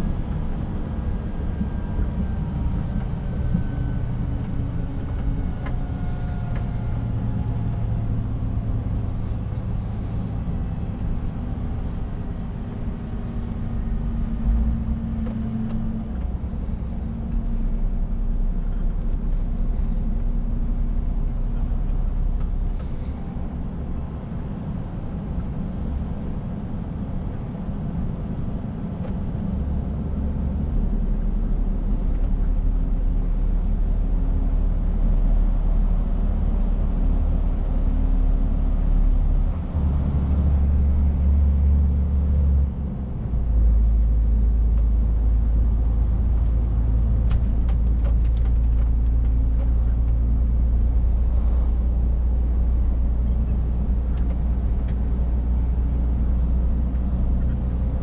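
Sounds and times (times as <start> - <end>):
road and tyre noise: 0.0 - 58.0
truck diesel engine rumble: 0.0 - 58.0.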